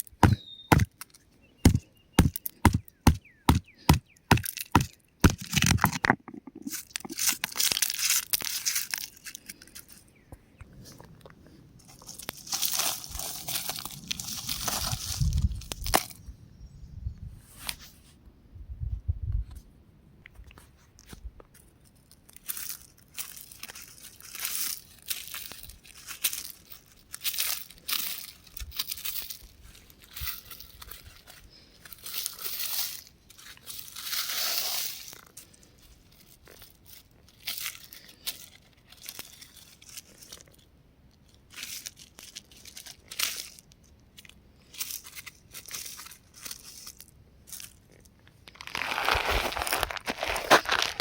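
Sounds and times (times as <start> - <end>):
rock crunching and crackling: 0.0 - 16.3, 21.1 - 51.0.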